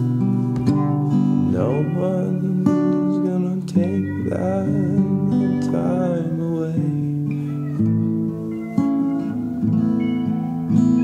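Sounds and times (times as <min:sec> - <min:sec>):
strummed acoustic guitar: 0:00.0 - 0:11.0
sliding bending melody line: 0:00.6 - 0:11.0.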